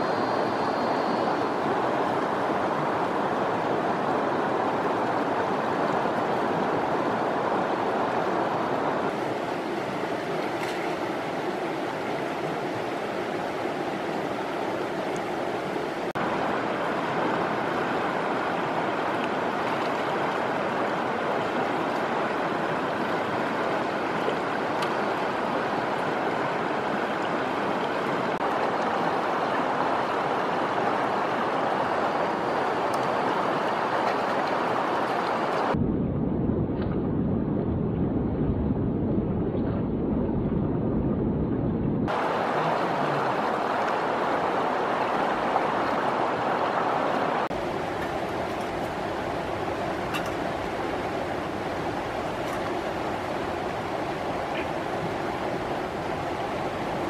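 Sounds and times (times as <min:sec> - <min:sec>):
river water rushing: 0:00.0 - 0:35.8, 0:42.1 - 0:57.0.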